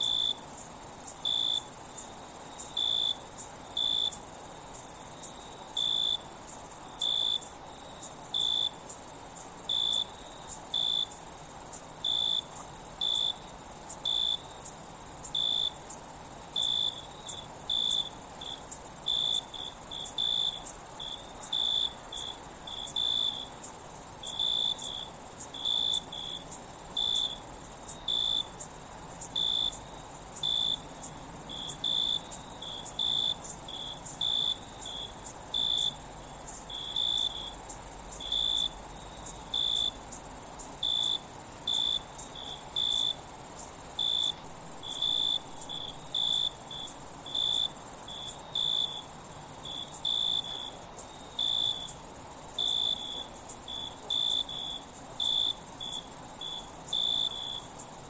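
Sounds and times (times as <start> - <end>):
crickets chirping: 0.0 - 58.0
high-pitched insect trill: 0.0 - 58.0.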